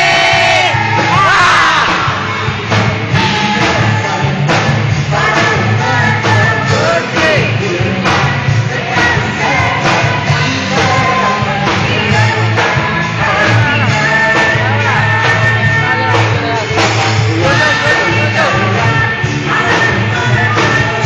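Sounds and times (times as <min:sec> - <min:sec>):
bass guitar: 0:00.0 - 0:21.0
drums: 0:00.0 - 0:21.0
lead singer singing: 0:00.0 - 0:21.0
rock band playing: 0:00.0 - 0:21.0.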